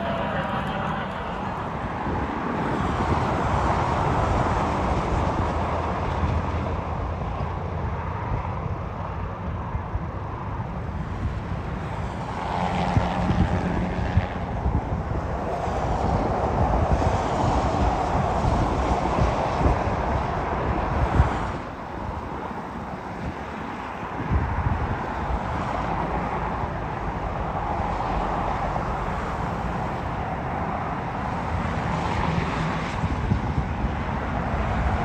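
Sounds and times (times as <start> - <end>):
rolling railway cars: 0.0 - 35.0.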